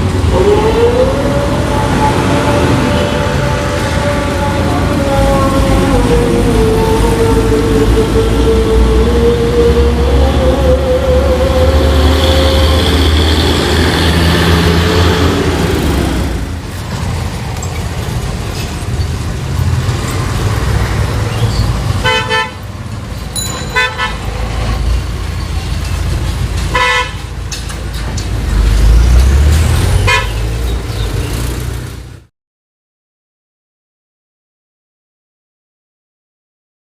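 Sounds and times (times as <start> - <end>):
engine roaring: 0.0 - 32.3
road traffic: 0.0 - 32.3.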